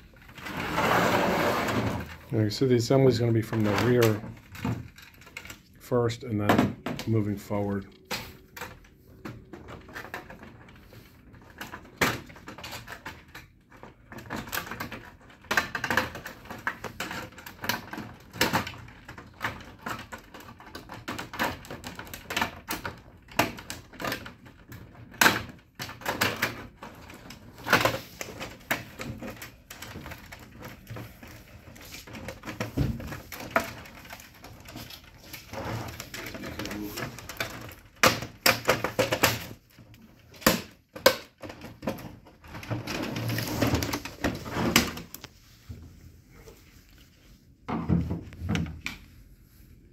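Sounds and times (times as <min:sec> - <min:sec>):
plastic panels clicking and scraping: 0:00.0 - 0:45.4.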